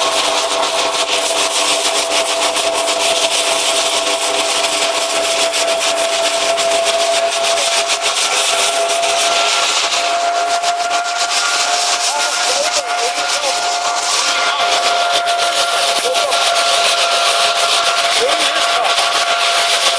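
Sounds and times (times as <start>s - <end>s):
thresher machine humming: 0.0s - 19.9s.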